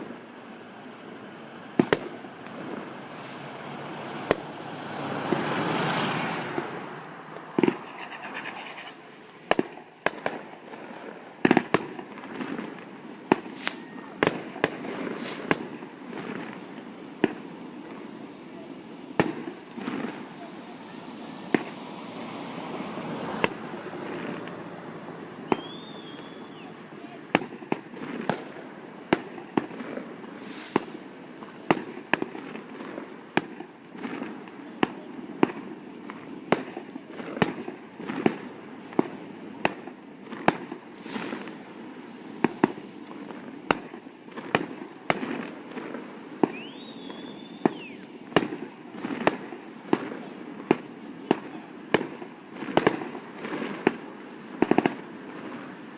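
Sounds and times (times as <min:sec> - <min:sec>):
fireworks banging: 0:00.0 - 0:55.9.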